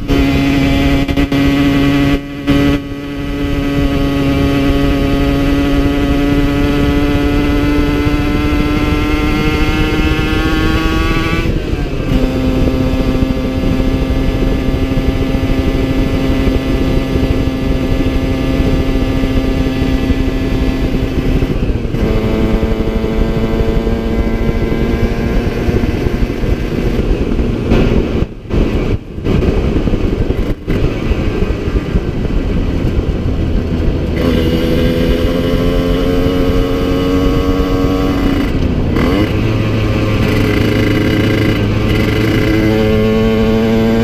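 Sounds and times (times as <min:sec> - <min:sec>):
two-stroke engine revving: 0:00.0 - 0:32.4, 0:33.5 - 0:44.0
wind noise: 0:00.0 - 0:44.0.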